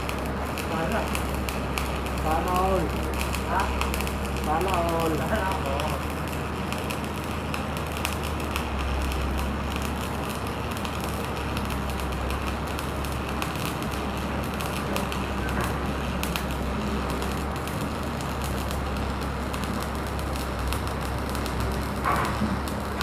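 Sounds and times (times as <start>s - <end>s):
welding arc crackling: 0.0s - 23.0s.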